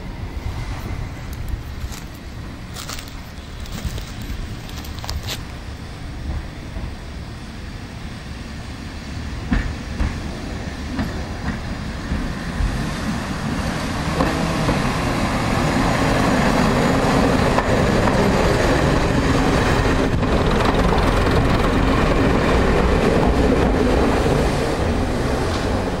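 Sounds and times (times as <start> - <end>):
diesel railcar engine passing: 0.0 - 26.0
train wheels clicking on rails: 0.7 - 7.2, 9.2 - 26.0.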